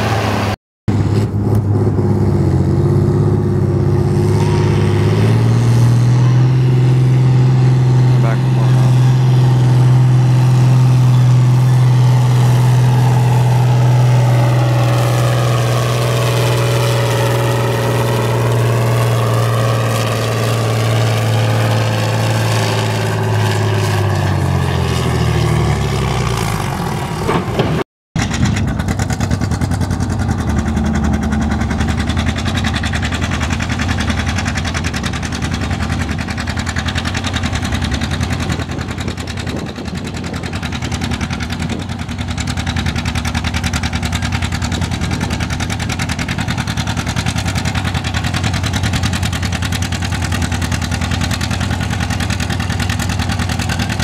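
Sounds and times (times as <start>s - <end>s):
tractor engine under full load: 0.0s - 54.0s
tractor engines running steadily: 0.0s - 54.0s.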